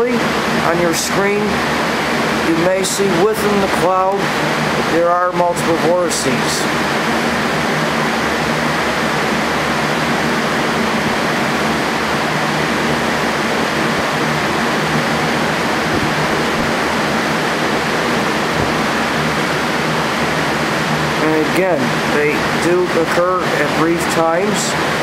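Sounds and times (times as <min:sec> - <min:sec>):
electric fans rushing air: 0:00.0 - 0:25.0
faint motor hum: 0:00.0 - 0:25.0.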